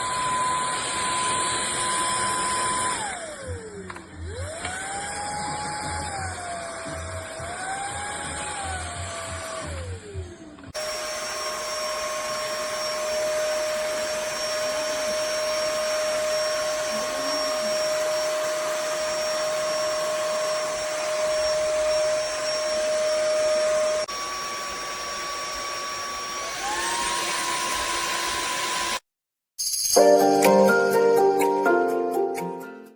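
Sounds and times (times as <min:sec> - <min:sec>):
vacuum cleaner motor whining: 0:00.0 - 0:29.0.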